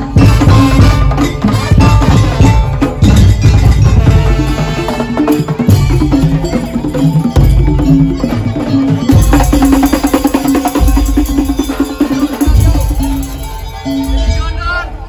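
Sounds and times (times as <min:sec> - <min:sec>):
percussion music with drums: 0:00.0 - 0:15.0.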